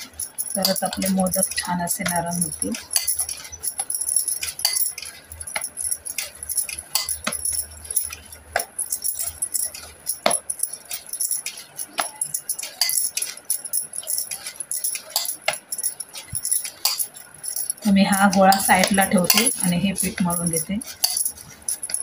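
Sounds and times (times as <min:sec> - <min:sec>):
bangles clinking on steel plate: 0:00.0 - 0:22.0
bangles jingling and clicking: 0:00.0 - 0:22.0.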